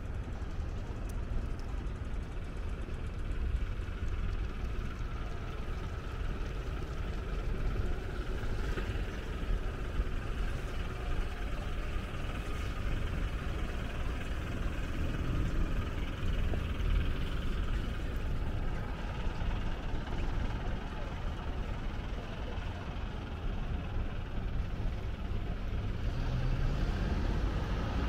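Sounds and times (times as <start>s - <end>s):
city road traffic hum: 0.0s - 28.0s.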